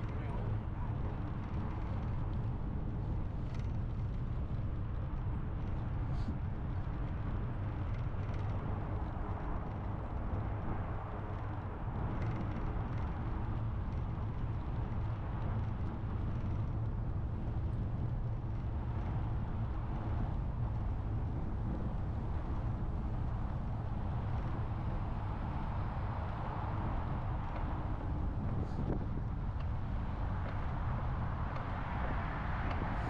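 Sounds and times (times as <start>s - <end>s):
tyre and road noise: 0.0s - 33.0s
wind buffeting microphone: 0.0s - 33.0s.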